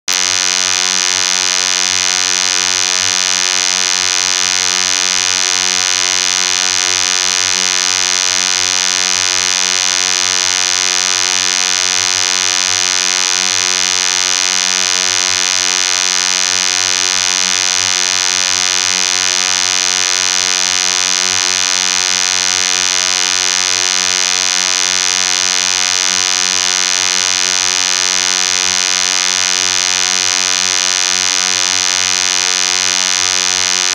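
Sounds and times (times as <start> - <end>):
steady electronic buzzing tone: 0.1 - 33.9.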